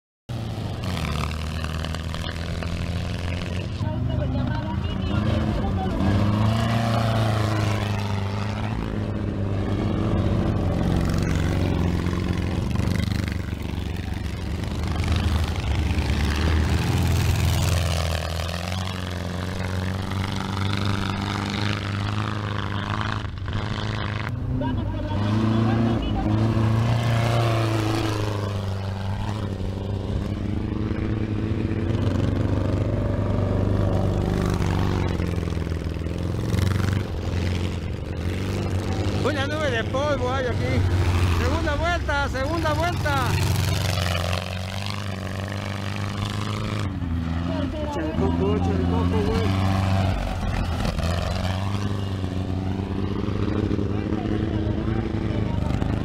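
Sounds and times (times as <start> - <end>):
race car engines running hard: 0.3 - 56.0.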